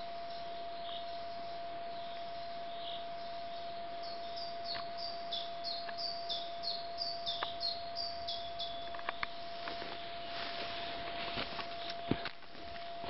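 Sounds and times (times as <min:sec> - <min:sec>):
faint steady whine: 0:00.0 - 0:13.0
songbird singing: 0:00.0 - 0:13.0.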